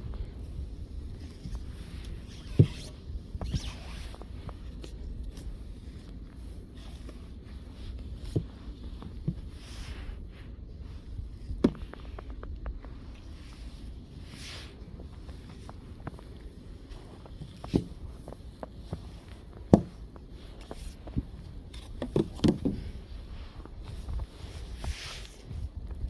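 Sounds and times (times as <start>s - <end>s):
brush sweeping snow: 0.8s - 12.3s, 13.0s - 22.0s, 22.8s - 25.7s.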